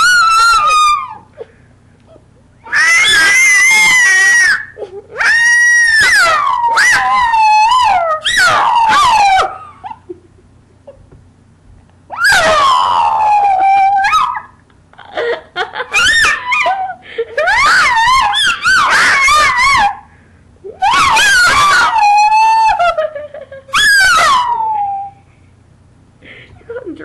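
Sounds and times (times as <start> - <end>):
dog crying: 0.0 - 1.5, 2.1 - 10.3, 12.1 - 14.6, 15.2 - 20.1, 20.7 - 25.3.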